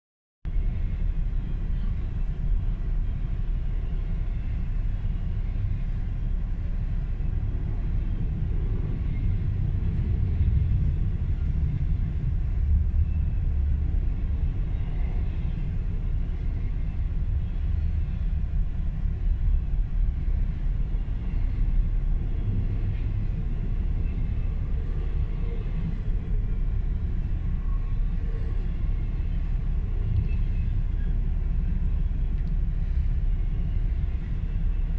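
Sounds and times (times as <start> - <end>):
freight train rumbling past: 0.5 - 34.9.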